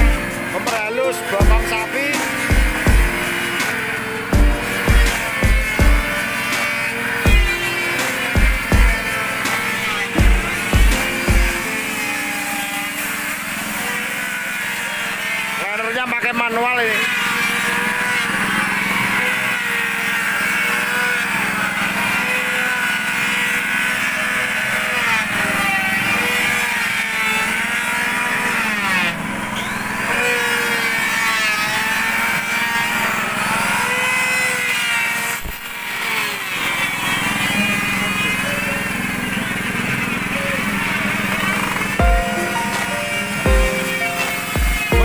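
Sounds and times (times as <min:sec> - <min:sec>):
electric planer shaving wood: 0:00.0 - 0:45.0.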